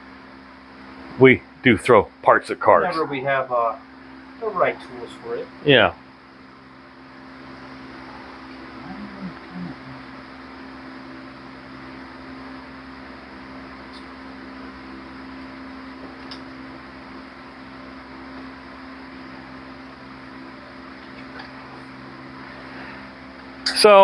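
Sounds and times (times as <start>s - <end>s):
cooling unit fan hum: 0.0s - 24.0s.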